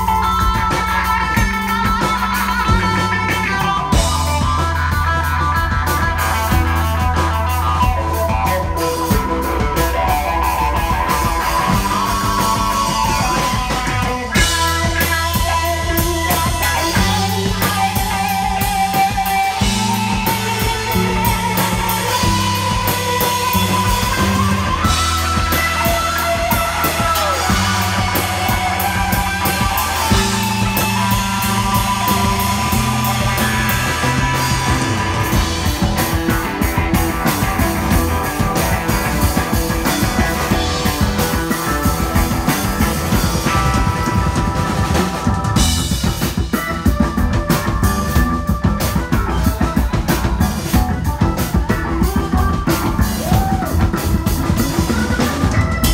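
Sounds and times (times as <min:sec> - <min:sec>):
psychedelic rock band jamming: 0:00.0 - 0:55.9.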